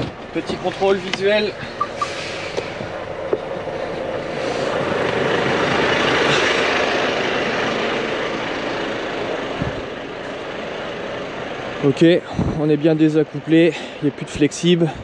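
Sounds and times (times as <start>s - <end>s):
rushing sound in truck cab: 0.0s - 12.8s.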